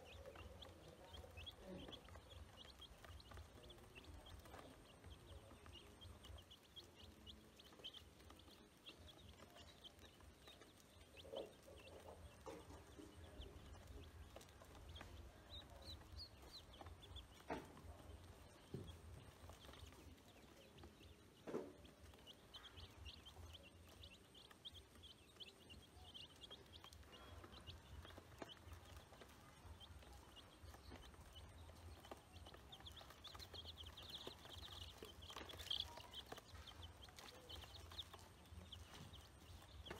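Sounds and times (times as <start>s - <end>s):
ducklings and chicks peeping: 0.0s - 39.9s.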